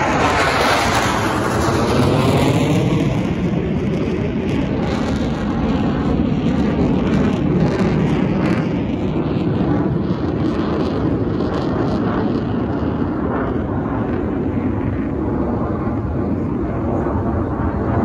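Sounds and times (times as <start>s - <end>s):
aircraft engine rumble: 0.0s - 18.0s
wind buffeting microphone: 0.0s - 18.0s.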